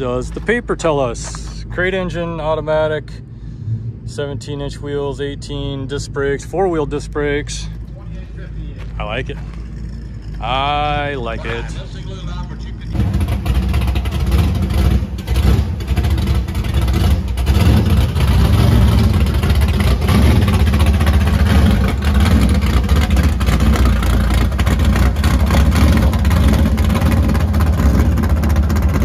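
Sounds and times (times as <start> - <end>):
car engine rumbling: 0.0 - 29.0.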